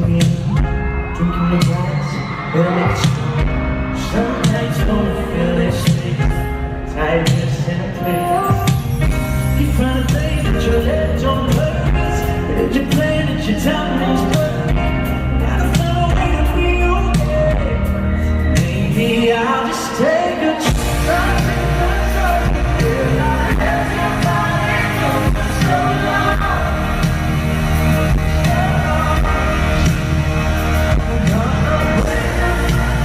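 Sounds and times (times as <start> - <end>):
live pop ballad: 0.0 - 33.0
man singing: 0.0 - 33.0.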